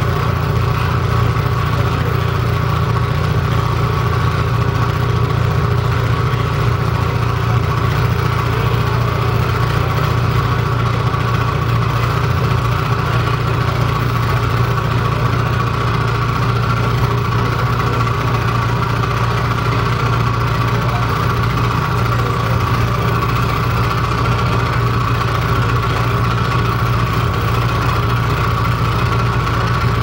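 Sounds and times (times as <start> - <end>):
heavy low hum: 0.0 - 30.0.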